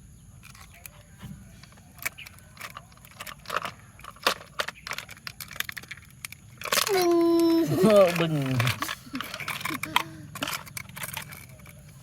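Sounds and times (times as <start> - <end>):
plastic toy vehicles clattering: 0.4 - 12.0.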